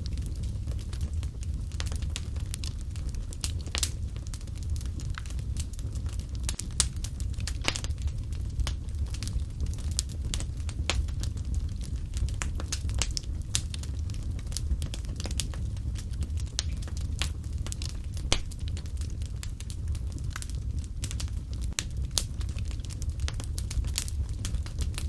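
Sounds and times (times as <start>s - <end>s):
fire crackles and pops: 0.0s - 25.0s
fire flames rumbling: 0.0s - 25.0s.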